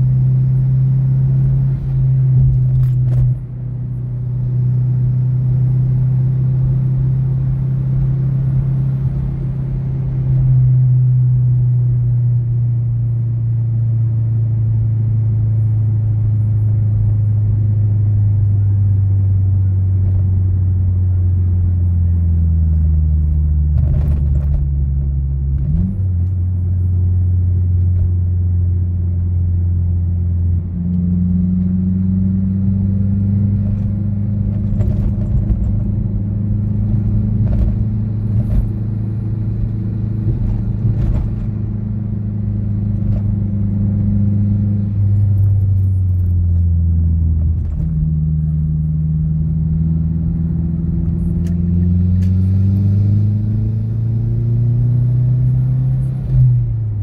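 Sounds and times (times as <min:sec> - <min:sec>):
car engine drone in cabin: 0:00.0 - 0:57.0.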